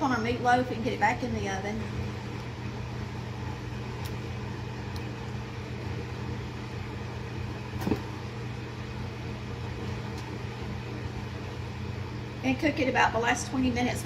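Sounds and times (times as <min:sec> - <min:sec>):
low appliance hum: 0:00.0 - 0:14.0.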